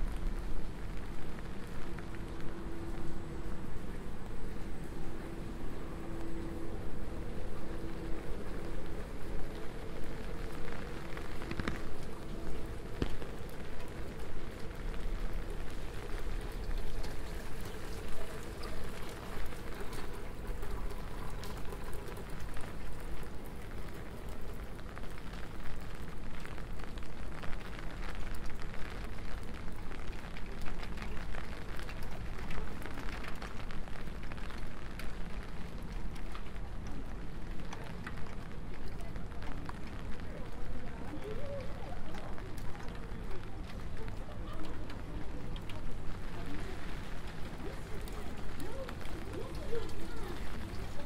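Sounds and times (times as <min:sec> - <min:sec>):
constant rain hiss: 0:00.0 - 0:51.0
raindrops ticking: 0:00.0 - 0:51.0.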